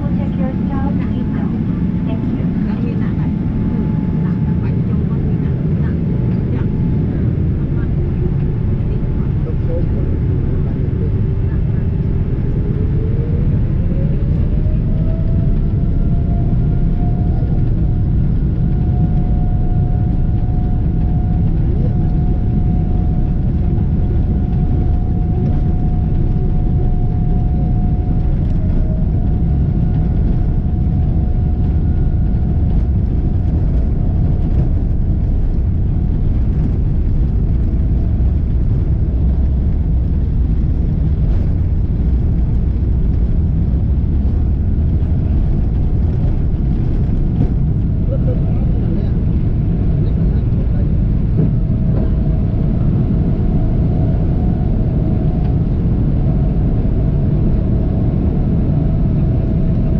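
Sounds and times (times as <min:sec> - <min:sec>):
airliner taxiing rumble: 0:00.0 - 0:59.9
thin steady whine: 0:00.0 - 0:59.9.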